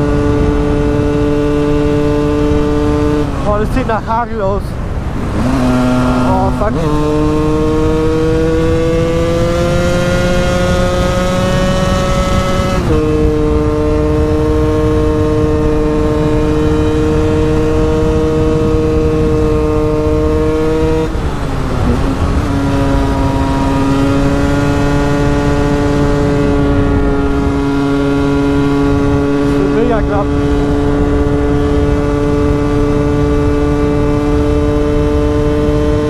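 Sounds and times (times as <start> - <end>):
two-stroke engine revving high: 0.0 - 36.0
wind noise: 0.0 - 36.0.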